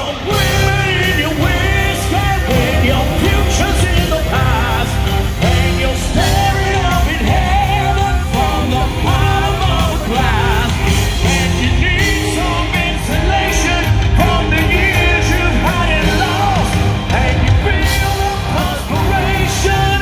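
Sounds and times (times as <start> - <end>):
bass guitar: 0.0 - 20.0
distorted electric guitars: 0.0 - 20.0
drums: 0.0 - 20.0
lead vocal singing: 0.0 - 20.0.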